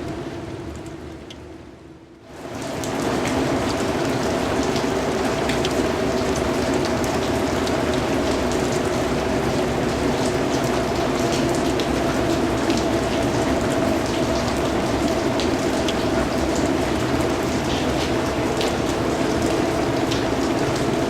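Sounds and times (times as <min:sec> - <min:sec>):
raindrops ticking on a surface: 0:00.0 - 0:21.0
steady rain hiss: 0:02.3 - 0:21.0.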